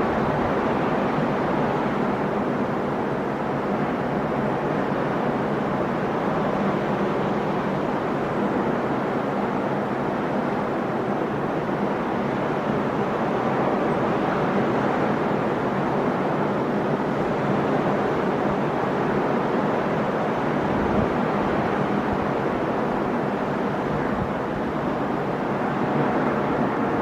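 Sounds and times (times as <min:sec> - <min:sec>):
waves breaking on shore: 0:00.0 - 0:27.0.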